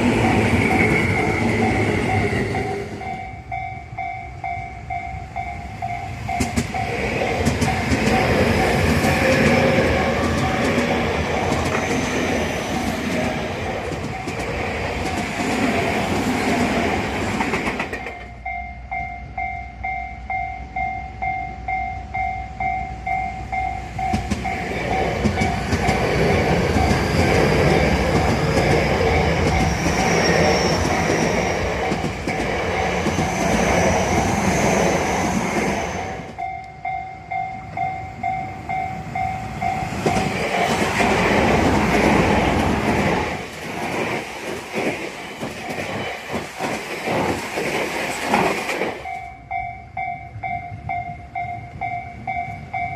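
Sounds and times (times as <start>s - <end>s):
electric trains passing: 0.0s - 52.9s.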